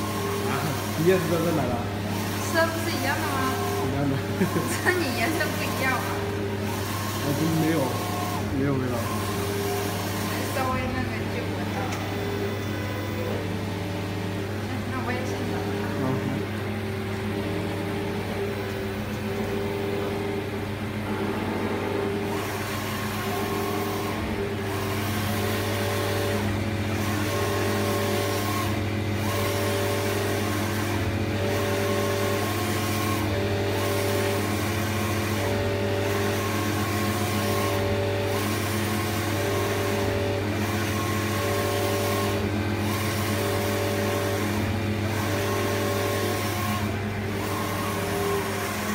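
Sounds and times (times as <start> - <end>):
print head carriage whine: 0.0 - 48.9
printer motor hum: 0.0 - 48.9.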